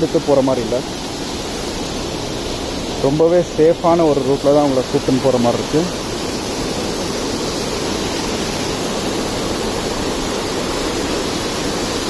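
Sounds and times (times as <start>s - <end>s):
water rushing in waterfall: 0.0s - 12.0s.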